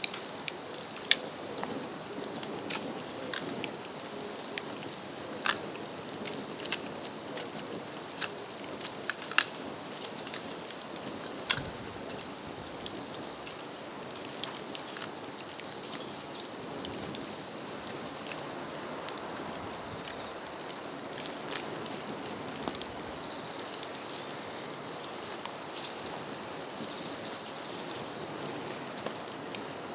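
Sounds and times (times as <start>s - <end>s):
high-pitched insect trill: 0.0s - 28.1s
bonfire crackling and popping: 0.0s - 29.9s.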